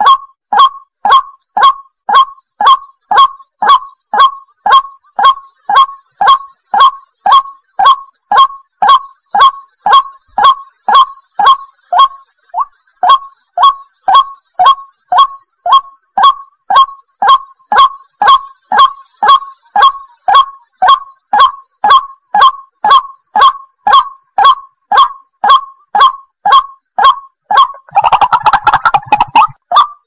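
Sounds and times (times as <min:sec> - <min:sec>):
bird calling sharp notes: 0:00.0 - 0:30.0.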